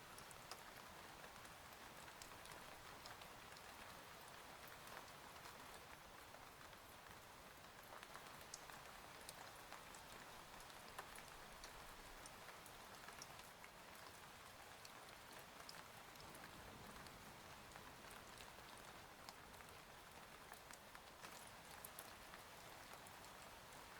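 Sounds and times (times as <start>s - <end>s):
faint steady rain: 0.0s - 23.9s.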